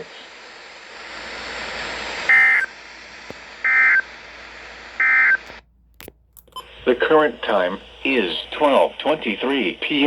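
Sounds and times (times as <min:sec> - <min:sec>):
radio hiss: 0:00.0 - 0:05.6, 0:06.6 - 0:10.0.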